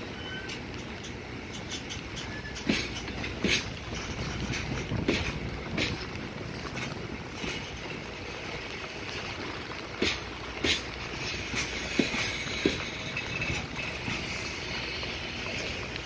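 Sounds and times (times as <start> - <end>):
freight train rumbling past: 0.0 - 16.0
wheels clacking over rail joints: 0.0 - 16.0.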